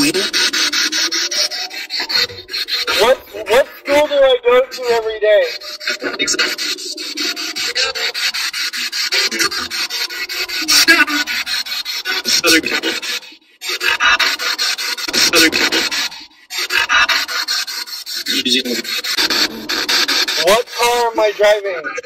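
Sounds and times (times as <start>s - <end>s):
chopping radio static: 0.0s - 11.5s, 12.1s - 13.2s, 13.8s - 16.1s, 18.3s - 22.0s
snatches of broadcast sound: 0.0s - 22.0s.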